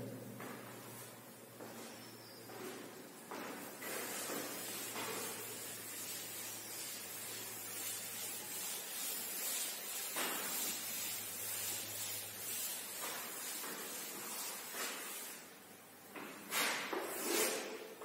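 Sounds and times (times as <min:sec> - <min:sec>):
duster rubbing a chalkboard: 0:01.0 - 0:15.5, 0:16.3 - 0:17.9.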